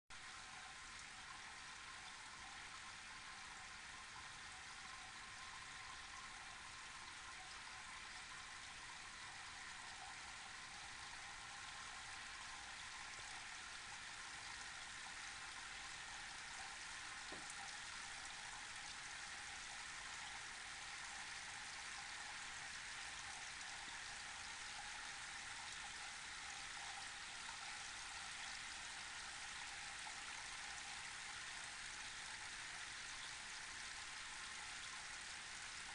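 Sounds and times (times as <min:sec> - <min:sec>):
indoor fountain water falling: 0:00.2 - 0:35.9.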